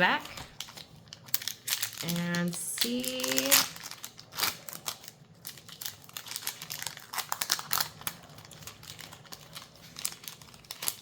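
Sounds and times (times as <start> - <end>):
plastic foil wrapper crinkling: 0.0 - 11.0.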